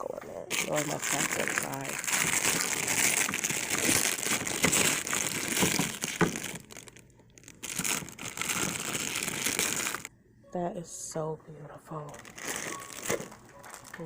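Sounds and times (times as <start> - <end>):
packaging crinkling and rustling: 0.4 - 10.1, 12.1 - 14.0.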